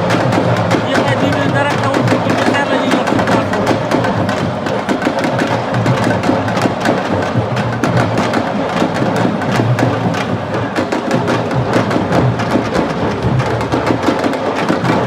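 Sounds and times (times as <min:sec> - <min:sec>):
fast dense drumming: 0:00.0 - 0:15.0.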